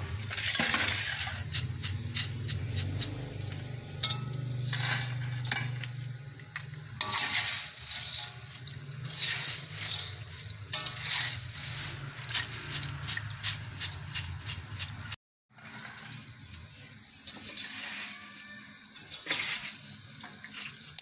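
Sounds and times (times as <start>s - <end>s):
skimmer scraping metal wok: 0.0s - 16.0s, 17.3s - 20.9s
oil sizzling: 0.0s - 21.0s.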